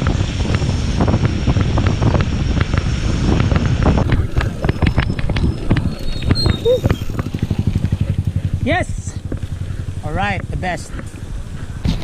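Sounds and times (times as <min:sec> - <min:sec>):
bike rattling over bumps: 0:00.0 - 0:12.0
wind buffeting microphone: 0:00.0 - 0:12.0.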